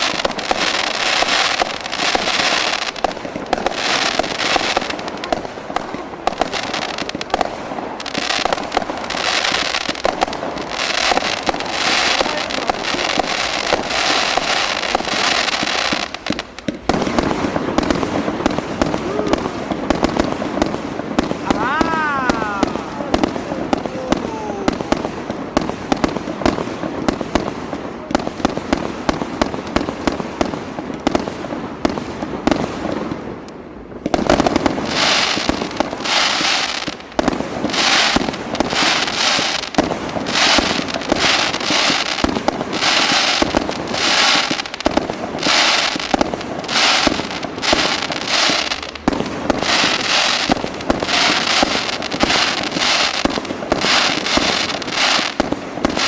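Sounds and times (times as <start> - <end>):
fireworks crackling bangs: 0.0 - 56.0
hissing crackling firework bursts: 0.0 - 56.0.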